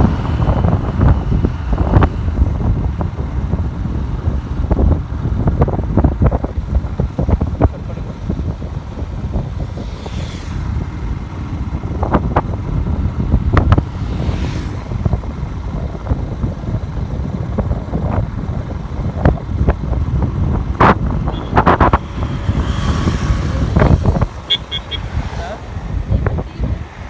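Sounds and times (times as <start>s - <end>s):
motorcycle engine rumble: 0.0s - 27.0s
wind buffeting microphone: 0.0s - 27.0s.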